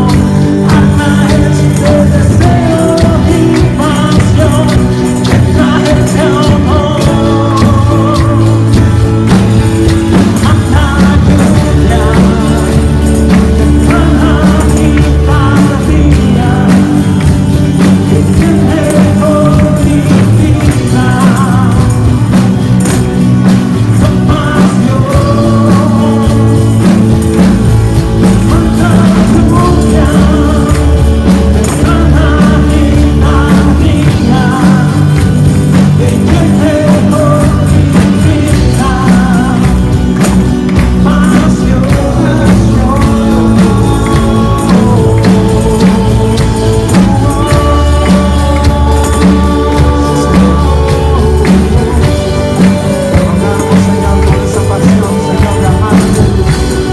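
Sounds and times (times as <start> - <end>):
band with keyboard and drums: 0.0 - 56.9
person singing: 0.0 - 56.9
tambourines jingling: 0.0 - 56.9.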